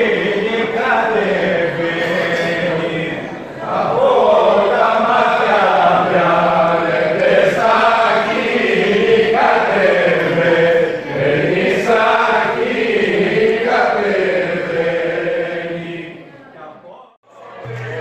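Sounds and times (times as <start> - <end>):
group singing folk song: 0.0 - 16.4.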